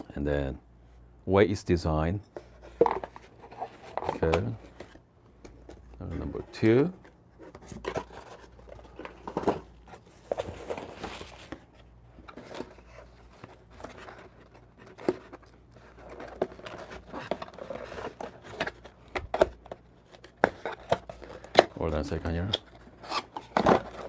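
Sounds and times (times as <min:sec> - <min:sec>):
cardboard and paper rustling: 0:02.4 - 0:24.0.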